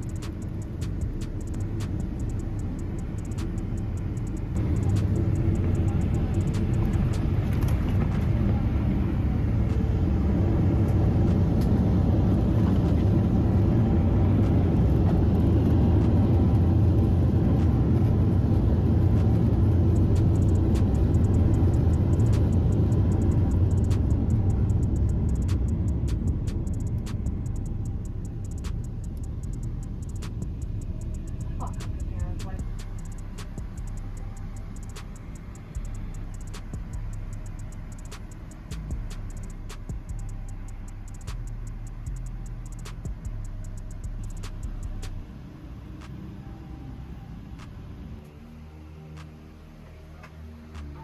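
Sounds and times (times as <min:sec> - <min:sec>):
airplane cabin rumble: 0:00.0 - 0:48.4.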